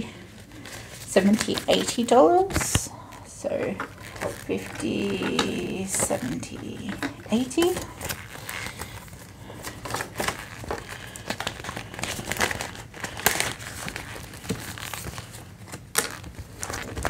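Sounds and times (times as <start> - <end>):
paper and plastic pocket crinkling: 0.0 - 17.0.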